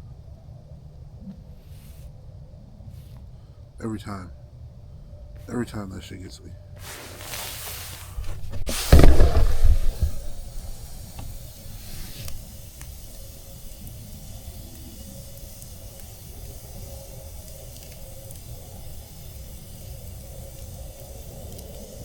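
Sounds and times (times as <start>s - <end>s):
campfire hissing and crackling: 0.0s - 22.0s.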